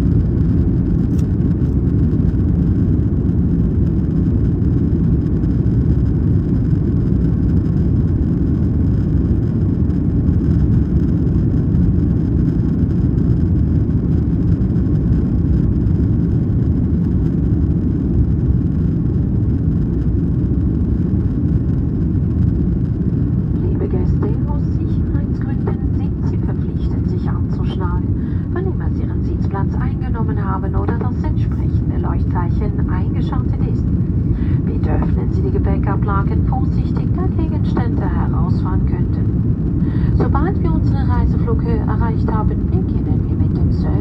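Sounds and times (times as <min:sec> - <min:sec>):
jet engines: 0:00.0 - 0:44.0.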